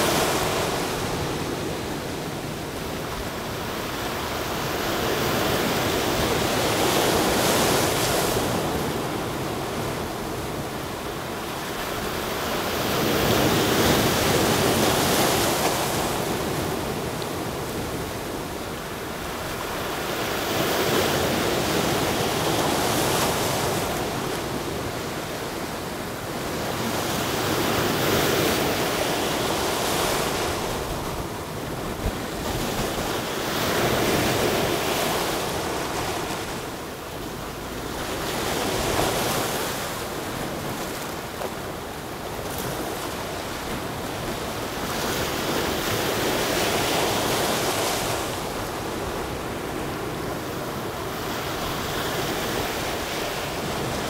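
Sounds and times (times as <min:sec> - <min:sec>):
waves breaking and washing in: 0:00.0 - 0:54.0.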